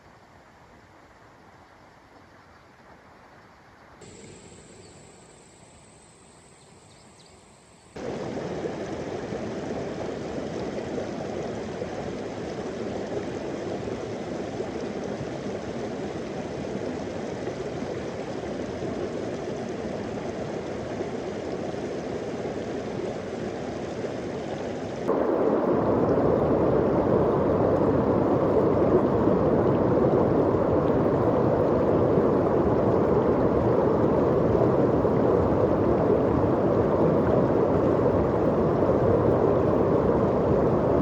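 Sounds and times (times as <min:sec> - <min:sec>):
stream water rushing: 0:08.0 - 0:41.0.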